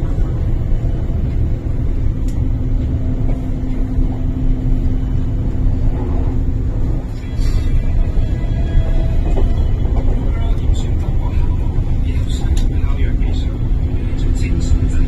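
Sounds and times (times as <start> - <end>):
steady hum: 0.0 - 15.0
train carriage rumble: 0.0 - 15.0.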